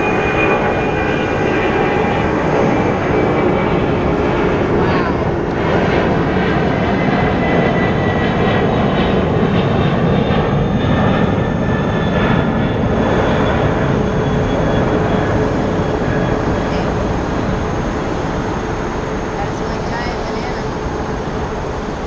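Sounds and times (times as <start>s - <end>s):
jet engine whine: 0.0s - 22.0s
jet engines rumbling: 0.0s - 22.0s.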